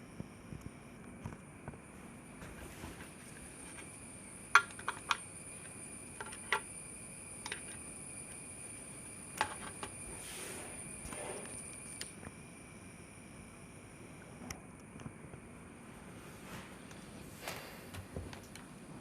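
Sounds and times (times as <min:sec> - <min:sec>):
faint high-pitched electrical whine: 0:00.0 - 0:19.0.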